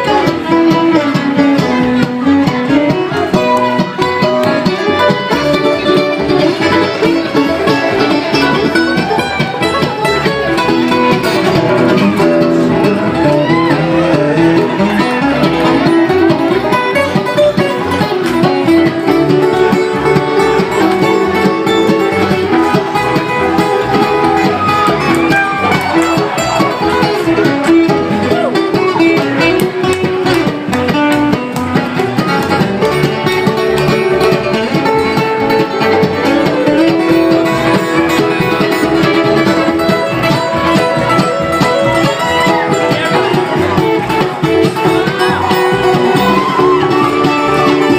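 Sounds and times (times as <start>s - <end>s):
acoustic guitar picking: 0.0s - 47.9s
banjo-like plucked strings: 0.0s - 47.9s.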